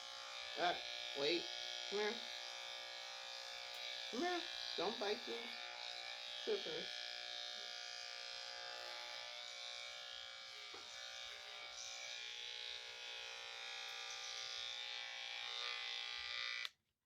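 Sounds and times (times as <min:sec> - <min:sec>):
electric clippers buzzing: 0:00.0 - 0:16.8.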